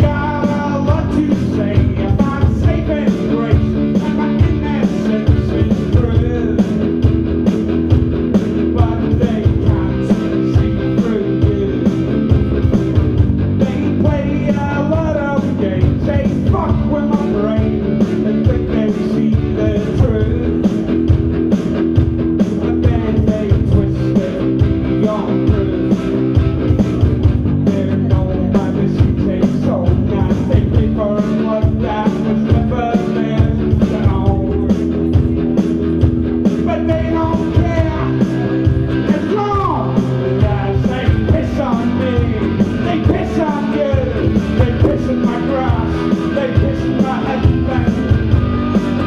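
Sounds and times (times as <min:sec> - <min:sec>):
person singing: 0:00.0 - 0:07.1, 0:08.4 - 0:21.3, 0:22.4 - 0:49.0
live rock band: 0:00.0 - 0:49.0.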